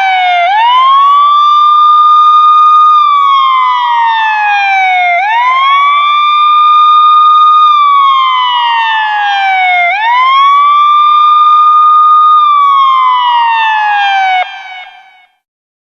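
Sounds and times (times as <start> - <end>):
police siren wailing: 0.0 - 15.4.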